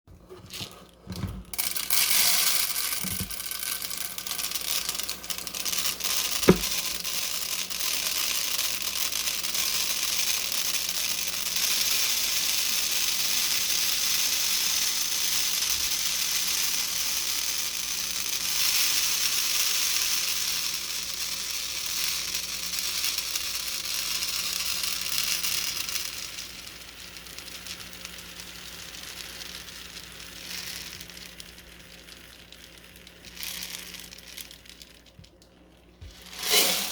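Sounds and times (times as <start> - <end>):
beads pouring into container: 0.2 - 36.9.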